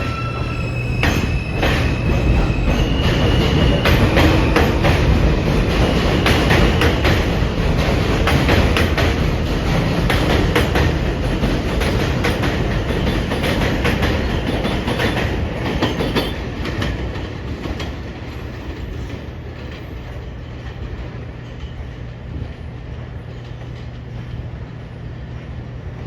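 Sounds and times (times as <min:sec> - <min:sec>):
subway train pulling away: 0:00.0 - 0:26.0
wheels clicking over rail joints: 0:01.0 - 0:24.7.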